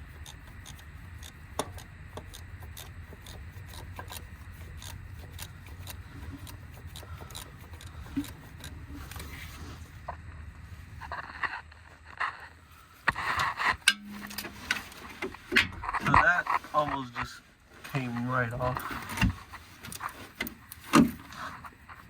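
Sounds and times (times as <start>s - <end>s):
hand tools clicking and rubbing: 0.0s - 9.8s, 13.0s - 22.0s
steady low hum: 0.0s - 22.0s.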